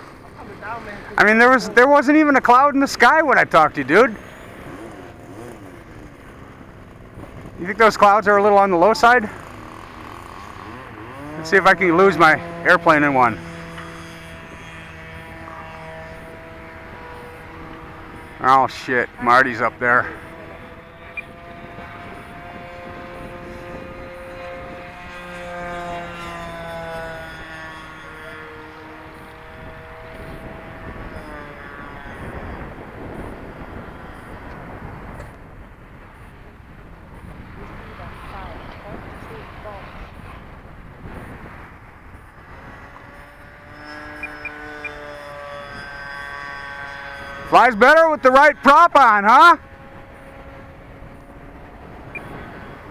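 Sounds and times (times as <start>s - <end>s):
wind rumble on microphone: 0.0s - 48.8s, 49.4s - 52.9s
model airplane motors whining: 0.0s - 52.9s.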